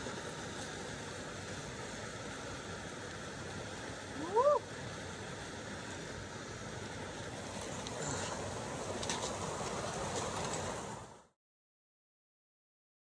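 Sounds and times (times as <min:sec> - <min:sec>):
creek rushing over rocks: 0:00.0 - 0:11.4.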